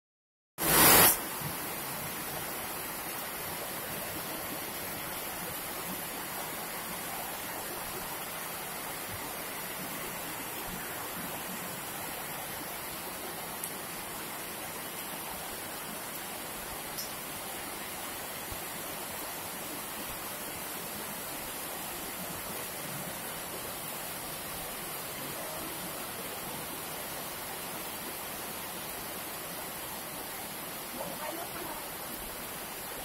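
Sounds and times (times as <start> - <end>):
heavy rain: 0.6 - 33.0.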